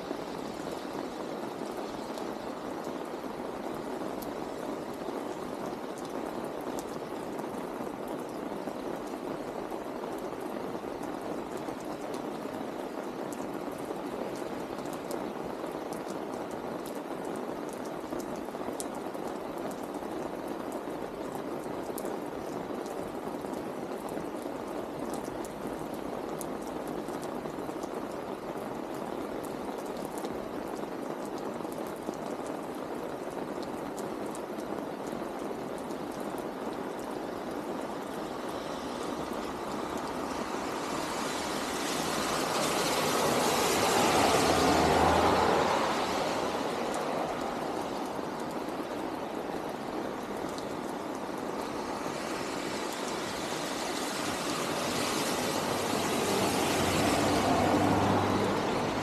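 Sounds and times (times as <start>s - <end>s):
car tyres hissing on wet road: 0.0s - 59.0s
rain falling on wet street: 0.0s - 59.0s.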